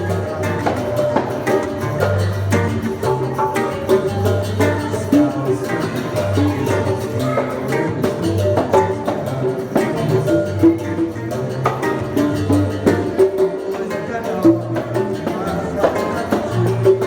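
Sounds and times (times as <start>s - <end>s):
acoustic guitar playing: 0.0s - 17.0s
hand percussion beat: 0.0s - 17.0s.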